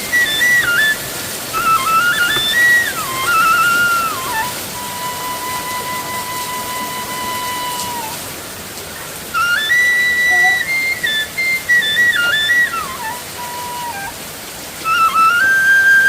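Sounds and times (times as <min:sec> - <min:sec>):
solo flute melody: 0:00.0 - 0:16.0
steady hiss: 0:00.0 - 0:16.0.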